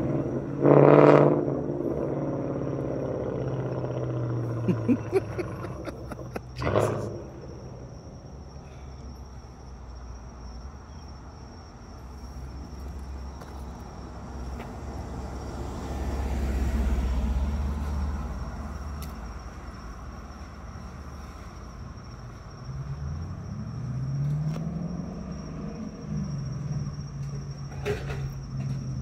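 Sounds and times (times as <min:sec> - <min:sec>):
car exhaust rumble passing: 0:00.0 - 0:10.6, 0:11.9 - 0:29.0.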